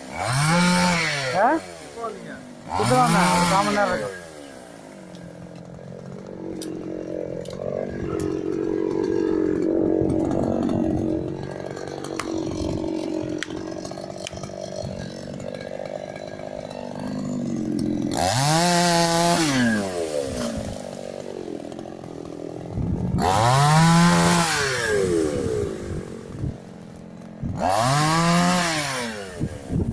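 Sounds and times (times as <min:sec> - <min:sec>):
chainsaw revving: 0:00.0 - 0:29.9.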